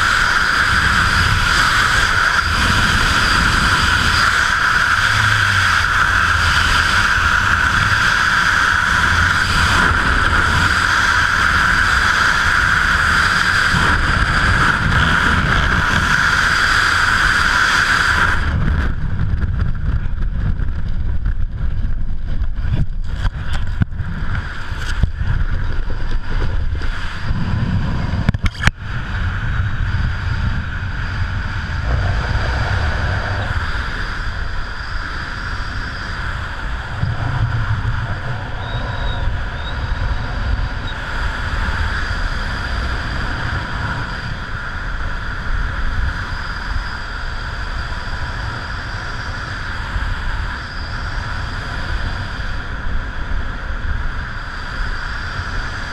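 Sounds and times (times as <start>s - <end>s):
loud rush of air: 0.0s - 52.6s
gusting wind buffet: 0.0s - 55.9s.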